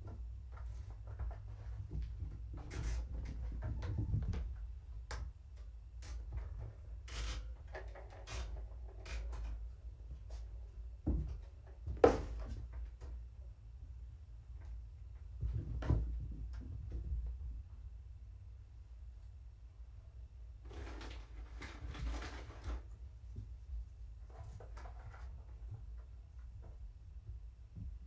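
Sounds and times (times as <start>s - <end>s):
kittens tapping and scuffing: 0.0s - 13.4s, 14.5s - 17.7s, 20.7s - 28.0s.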